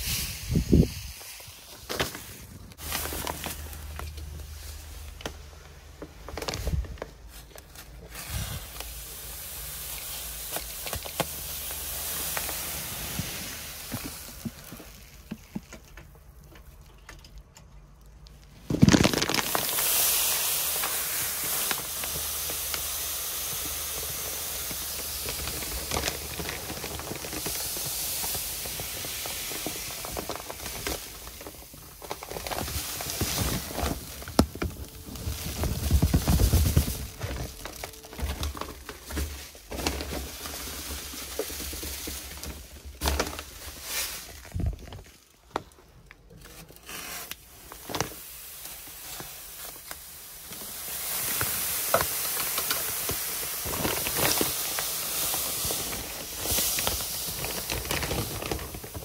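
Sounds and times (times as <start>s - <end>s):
sand pouring with steady hiss: 0.0s - 16.7s, 18.4s - 45.5s, 46.5s - 59.0s
plastic sack rustling and crackling: 0.0s - 17.5s, 18.2s - 59.0s.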